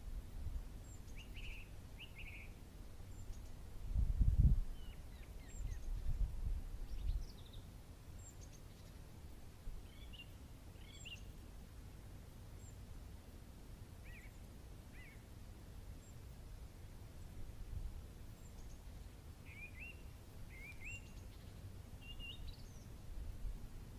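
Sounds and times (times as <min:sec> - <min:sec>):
faint outdoor hush: 0:00.0 - 0:23.9
small birds chirping: 0:00.8 - 0:03.8, 0:04.6 - 0:11.4, 0:12.3 - 0:23.5.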